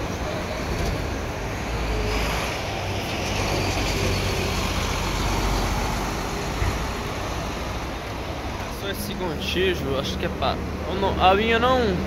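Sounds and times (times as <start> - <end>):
diesel coach engine rumbling: 0.0 - 12.0.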